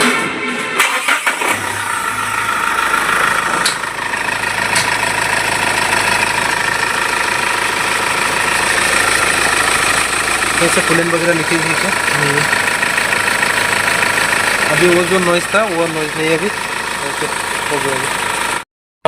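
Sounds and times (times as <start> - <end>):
diesel engine starting and idling: 0.0 - 18.6.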